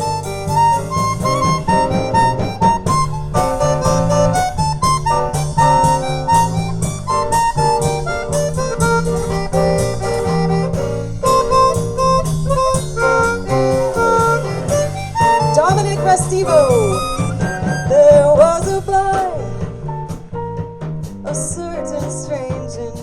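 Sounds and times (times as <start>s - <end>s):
harmonica melody: 0.0s - 19.6s
plucked acoustic guitar: 0.0s - 22.2s.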